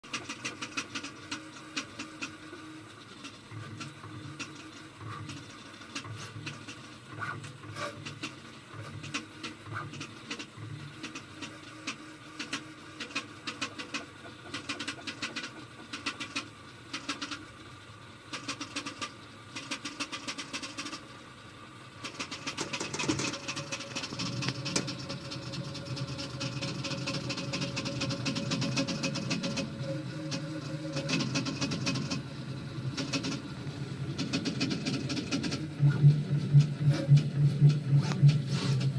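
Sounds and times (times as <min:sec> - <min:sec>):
printer motors humming: 0:00.1 - 0:18.3, 0:21.5 - 0:38.9
rapid irregular clicking: 0:00.1 - 0:21.2, 0:21.9 - 0:38.9.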